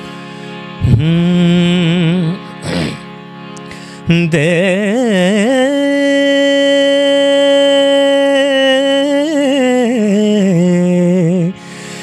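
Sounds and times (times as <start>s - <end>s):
man singing: 0.8s - 3.2s, 4.0s - 11.6s.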